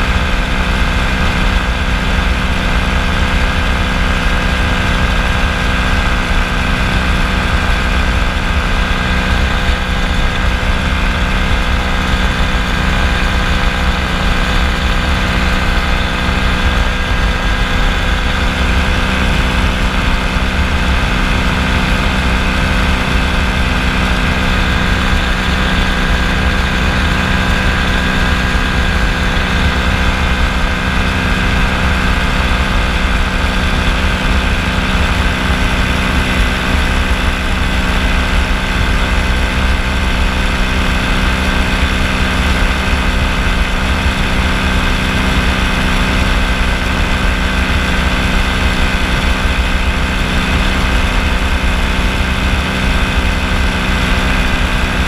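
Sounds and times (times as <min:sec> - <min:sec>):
ultralight aircraft engine and propeller: 0:00.0 - 0:55.0.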